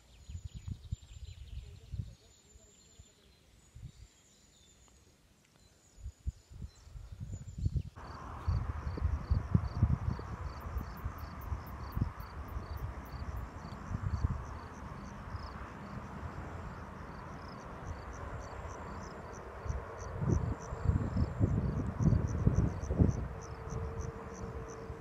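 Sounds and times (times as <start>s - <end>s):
wind rumbling on microphone: 0.0s - 2.6s, 5.9s - 25.0s
insects chirping: 2.2s - 25.0s.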